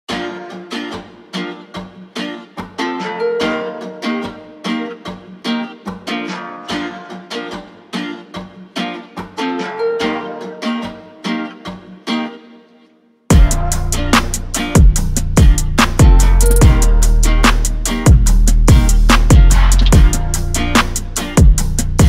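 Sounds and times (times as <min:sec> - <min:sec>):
bouncy plucked string melody: 0:00.1 - 0:22.0.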